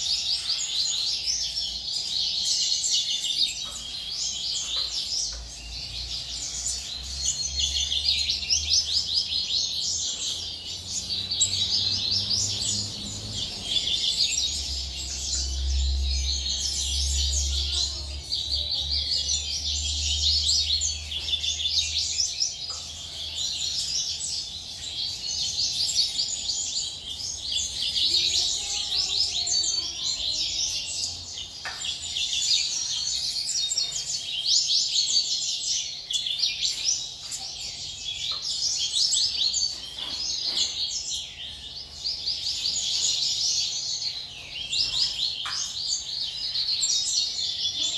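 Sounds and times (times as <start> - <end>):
caged birds chirping: 0.0 - 47.9.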